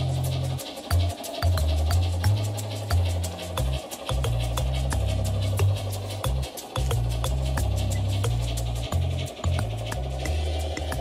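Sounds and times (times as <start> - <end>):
bass line: 0.0 - 11.0
clicking beat: 0.0 - 11.0.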